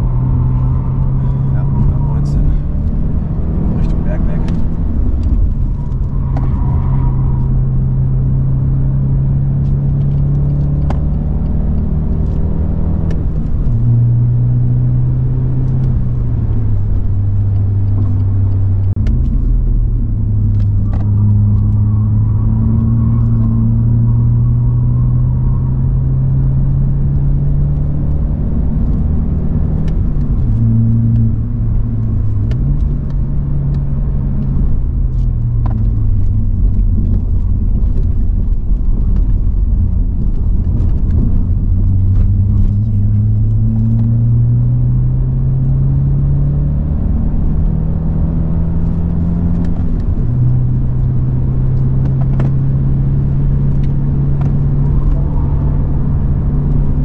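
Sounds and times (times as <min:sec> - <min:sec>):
car engine running hard: 0:00.0 - 0:57.0
road and tyre noise: 0:00.0 - 0:57.0.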